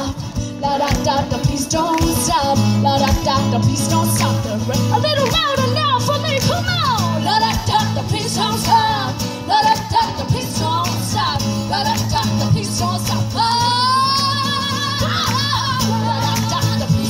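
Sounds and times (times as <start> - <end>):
strummed acoustic guitar: 0.0 - 17.0
women singing: 0.0 - 17.0.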